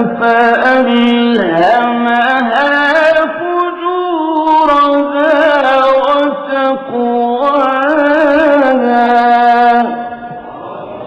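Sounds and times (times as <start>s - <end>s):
man chanting melodically: 0.0s - 11.0s.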